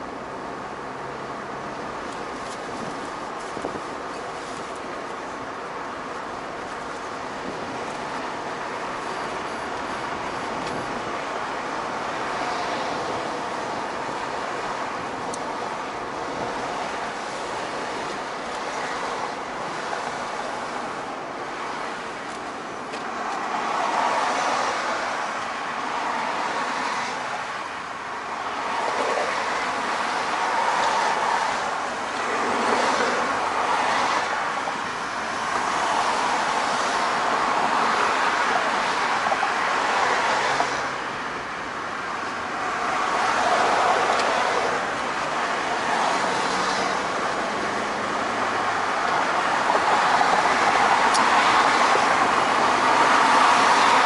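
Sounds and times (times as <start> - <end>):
car road noise inside cabin: 0.0 - 54.0.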